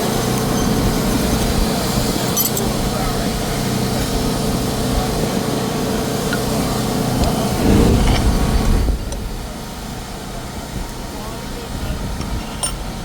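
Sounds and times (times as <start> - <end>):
workshop machinery droning: 0.0 - 13.0.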